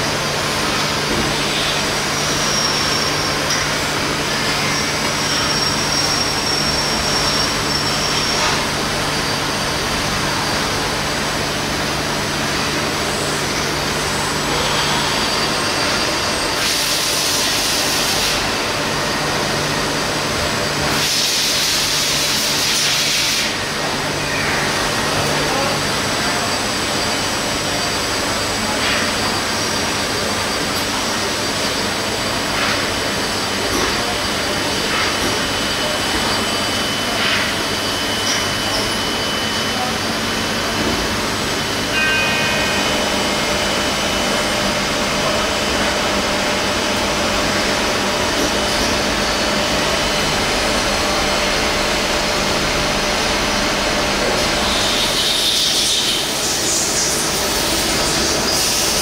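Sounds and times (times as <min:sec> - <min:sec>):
machine-shop equipment humming: 0:00.0 - 0:59.0.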